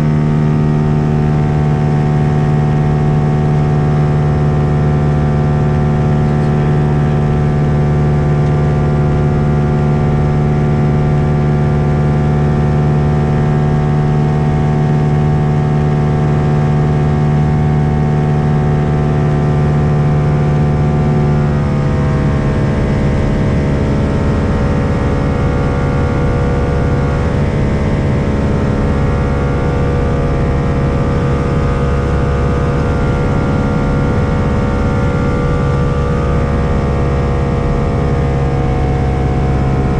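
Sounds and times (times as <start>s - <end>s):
propeller aircraft engine running: 0.0s - 39.9s.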